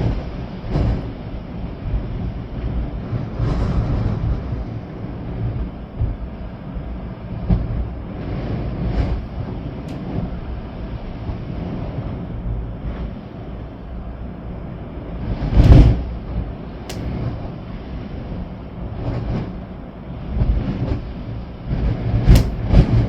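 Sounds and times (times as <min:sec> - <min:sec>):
rain: 0:00.0 - 0:23.0
storm wind buffeting microphone: 0:00.0 - 0:23.0.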